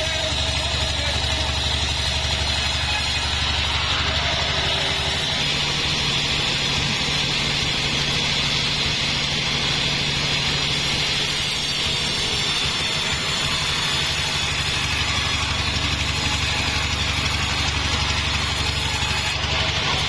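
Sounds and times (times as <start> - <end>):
high whine: 0.0 - 20.0
sawmill engine running: 0.0 - 20.0.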